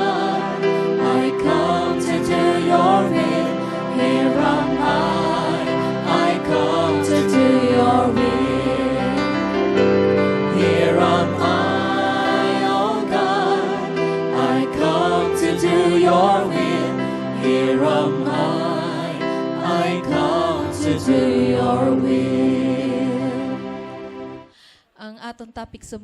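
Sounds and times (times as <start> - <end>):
voices singing with vibrato: 0.0 - 24.3
sustained instrumental chords: 0.0 - 24.5.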